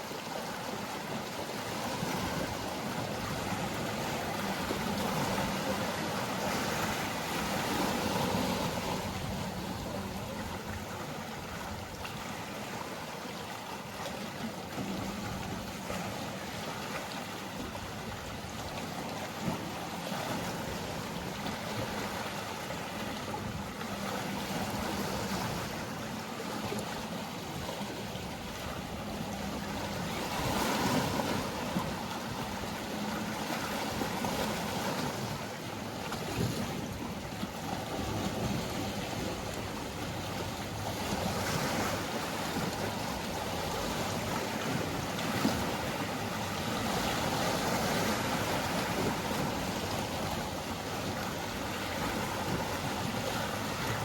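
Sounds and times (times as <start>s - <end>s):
sea waves washing in: 0.0s - 54.0s
boat engine hum: 0.1s - 54.0s.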